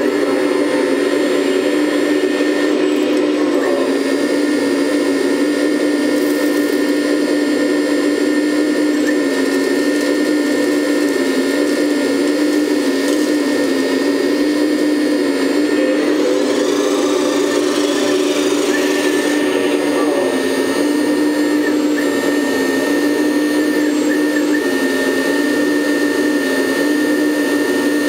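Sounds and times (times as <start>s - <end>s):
hydraulic pump whining: 0.0s - 28.0s.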